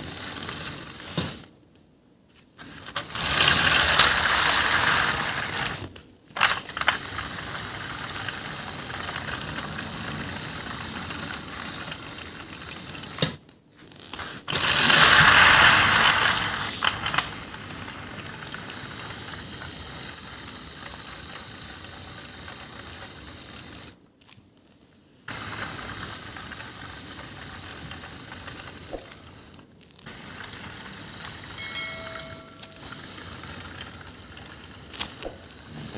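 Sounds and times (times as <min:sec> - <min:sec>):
toy train motor whirring: 0:02.6 - 0:24.0, 0:25.3 - 0:35.9.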